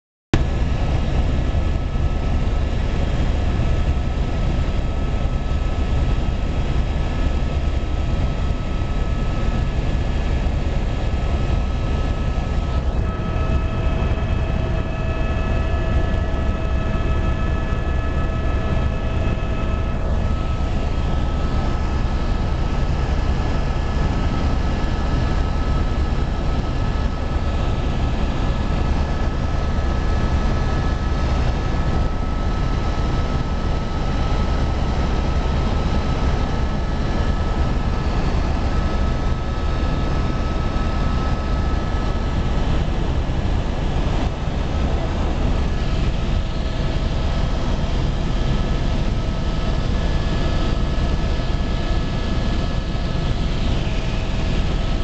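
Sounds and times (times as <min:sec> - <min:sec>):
helicopter engine and rotor drone: 0:00.3 - 0:55.0
steady high whine: 0:00.4 - 0:55.0.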